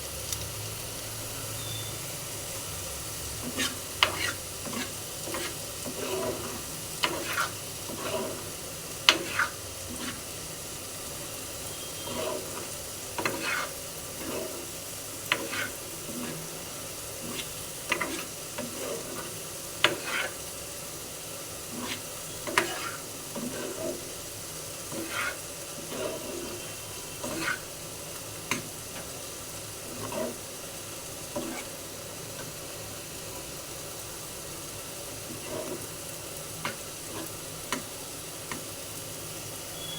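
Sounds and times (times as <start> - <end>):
food sizzling in a pan: 0.0 - 39.9
spatula scraping a pan: 3.3 - 32.8, 35.1 - 38.8.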